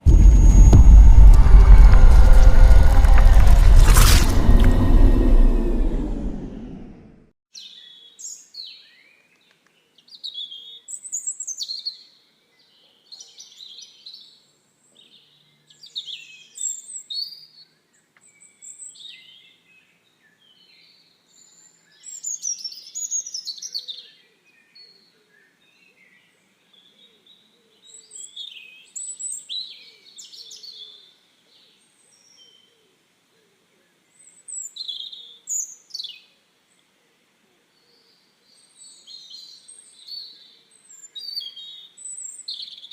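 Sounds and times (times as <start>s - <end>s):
songbirds chirping: 6.7s - 42.9s.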